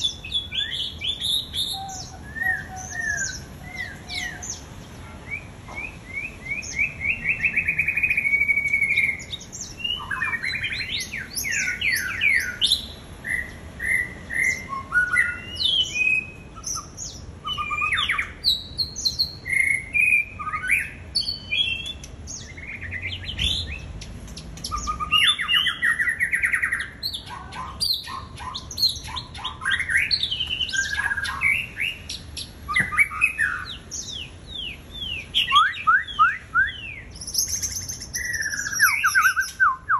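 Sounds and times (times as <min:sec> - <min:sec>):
bird singing trills and whistles: 0:00.0 - 0:39.9.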